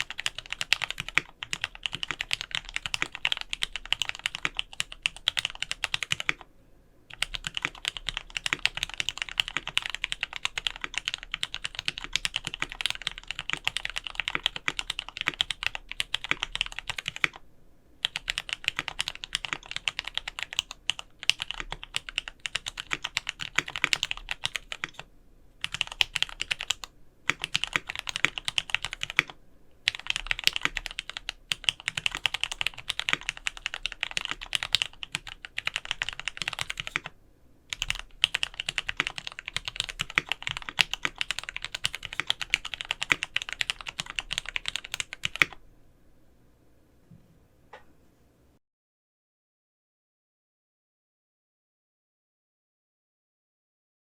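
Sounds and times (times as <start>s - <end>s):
fast mechanical keyboard typing: 0.0s - 6.4s, 7.1s - 17.4s, 18.0s - 37.1s, 37.7s - 45.6s.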